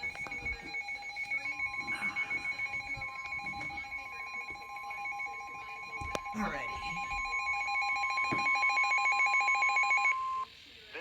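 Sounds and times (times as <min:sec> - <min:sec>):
steady long alert tone: 0:00.0 - 0:10.4
rapid high-pitched pulsing beep: 0:00.0 - 0:10.5.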